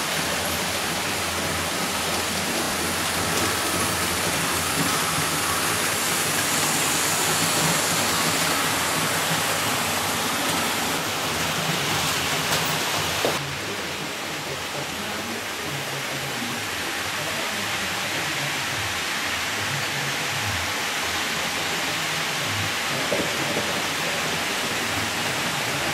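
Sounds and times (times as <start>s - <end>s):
model train running on track: 0.0s - 25.9s.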